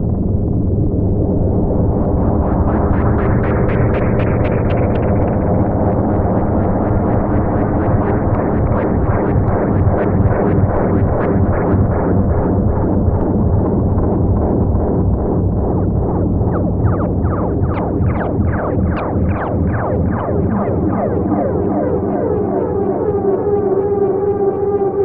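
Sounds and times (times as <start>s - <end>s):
low noisy synthesizer drone: 0.0s - 25.0s.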